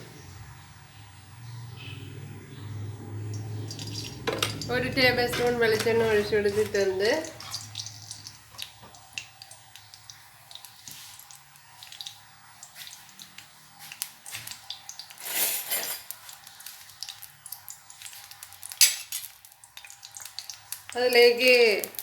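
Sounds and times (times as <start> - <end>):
oil crackling in a pan: 3.3 - 22.0.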